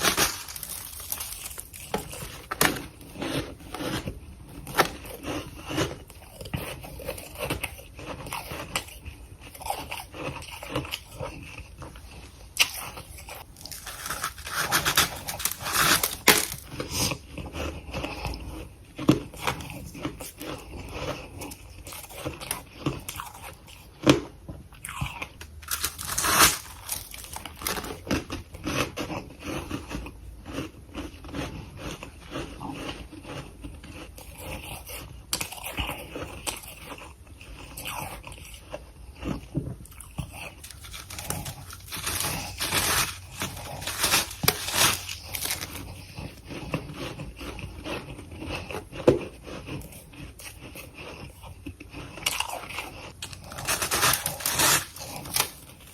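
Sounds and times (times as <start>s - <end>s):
person chewing crunchy ice: 0.0s - 55.9s.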